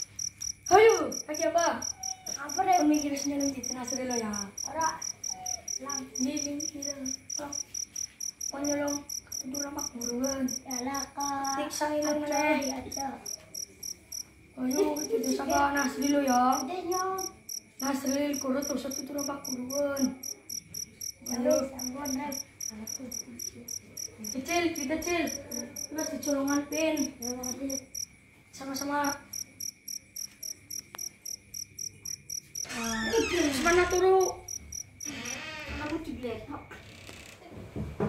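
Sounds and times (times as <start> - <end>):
crickets chirping: 0.0 - 37.4.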